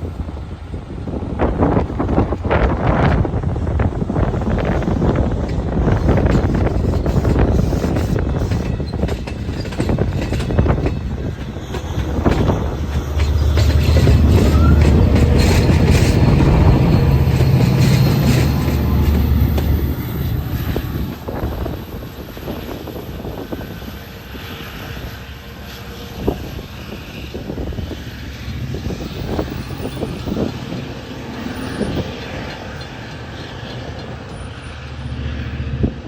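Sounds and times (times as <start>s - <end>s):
diesel train engine drone: 0.0s - 36.0s.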